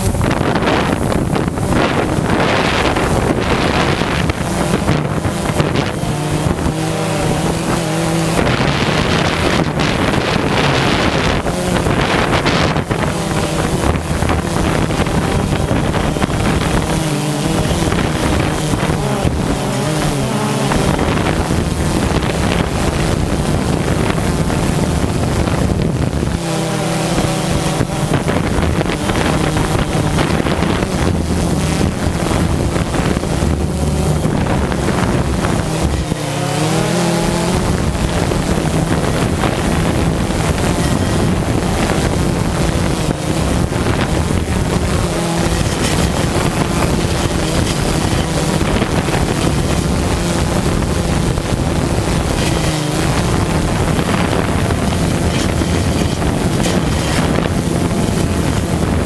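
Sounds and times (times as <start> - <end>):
engine hum: 0.0 - 59.0
wind noise on microphone: 0.0 - 59.0.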